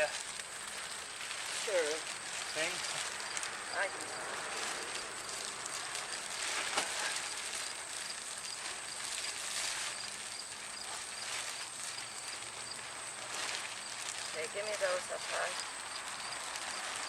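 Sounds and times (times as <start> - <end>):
plastic tarp rustling: 0.0 - 17.0.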